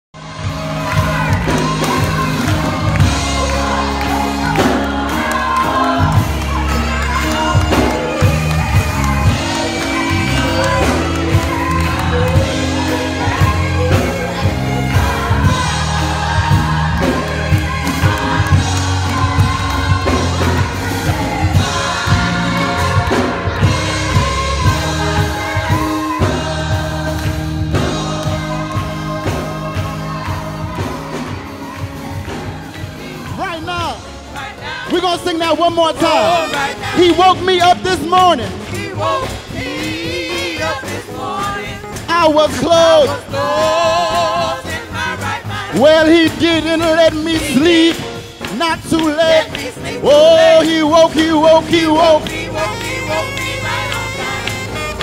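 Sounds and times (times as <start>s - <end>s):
band accompaniment: 0.2s - 55.0s
church choir singing: 0.2s - 55.0s.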